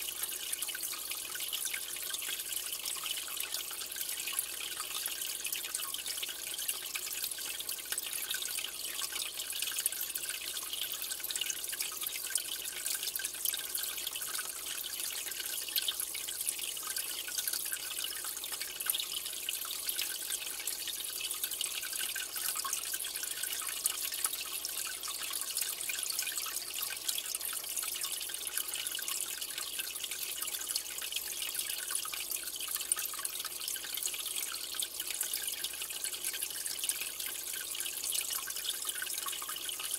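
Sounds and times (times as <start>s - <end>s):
aquarium water trickling: 0.0s - 39.9s
dripping water: 0.0s - 39.9s.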